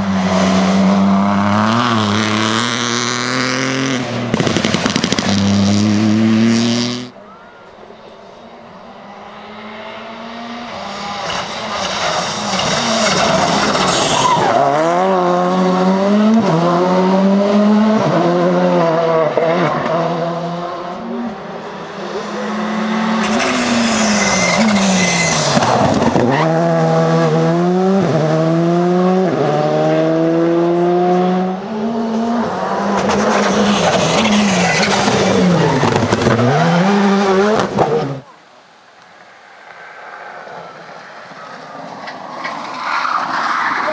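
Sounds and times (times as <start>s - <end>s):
rally car engines revving: 0.0s - 7.2s, 8.1s - 38.3s.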